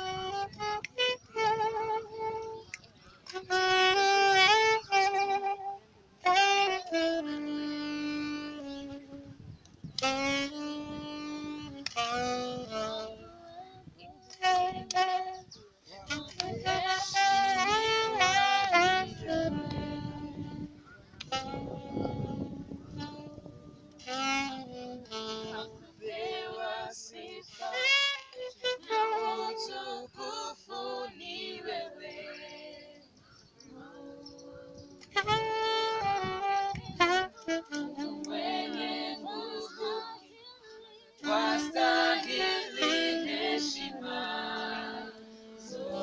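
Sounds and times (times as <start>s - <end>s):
high voice singing held notes: 6.7s - 46.0s.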